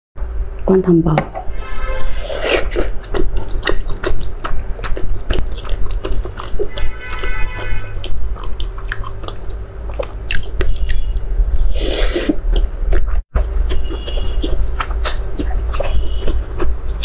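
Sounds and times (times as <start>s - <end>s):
wet chewing and mouth clicks: 2.7s - 11.6s, 12.2s - 17.0s.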